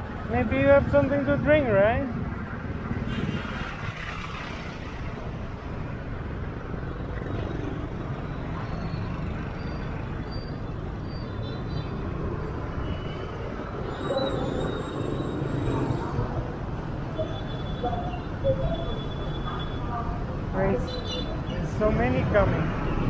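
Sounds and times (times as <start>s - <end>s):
road noise: 0.0s - 23.0s
traffic engines rumbling: 0.0s - 23.0s.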